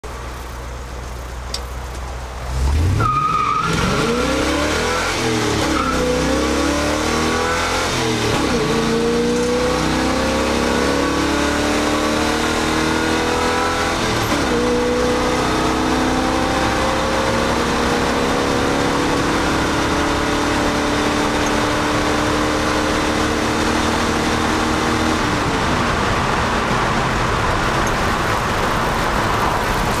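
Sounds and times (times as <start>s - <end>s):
truck engine revving through gears: 2.3s - 30.0s.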